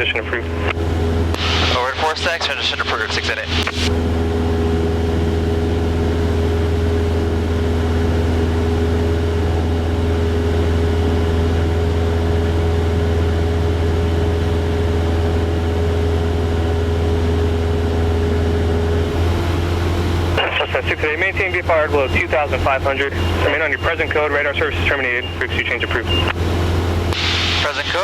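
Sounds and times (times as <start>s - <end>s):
airplane engine droning: 0.0s - 28.0s.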